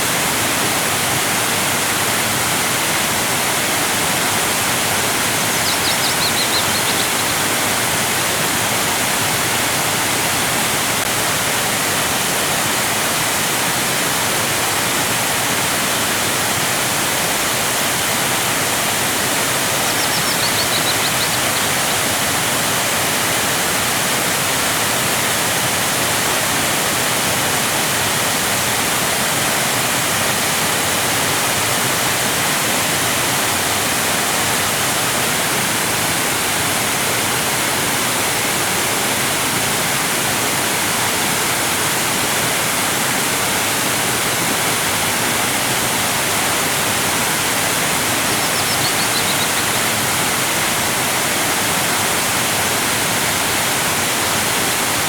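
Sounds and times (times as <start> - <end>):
waterfall crashing: 0.0 - 55.0.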